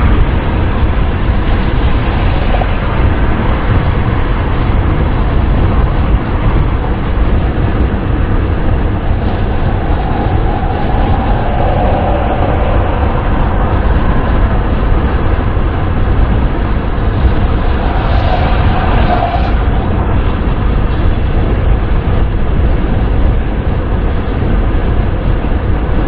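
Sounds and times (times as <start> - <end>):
faint hum: 0.0 - 24.0
car wind and road noise: 0.0 - 26.0.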